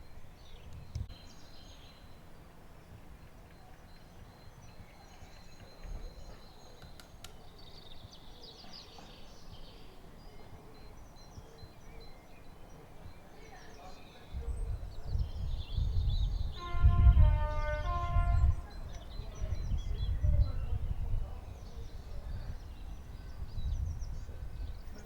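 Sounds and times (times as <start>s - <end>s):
small birds singing: 0.0s - 25.0s.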